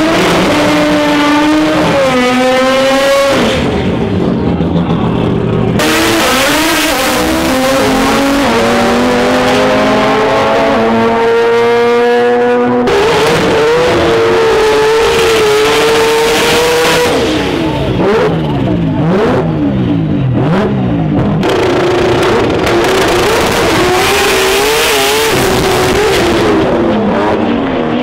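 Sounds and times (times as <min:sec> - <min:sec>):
racing car engines revving high: 0:00.0 - 0:28.0.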